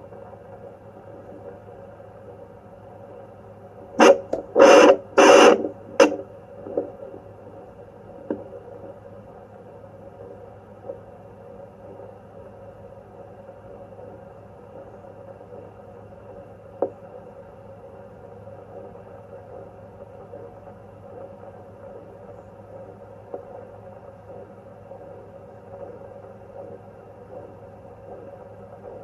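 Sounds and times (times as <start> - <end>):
doppler speaker static: 0.0 - 29.0.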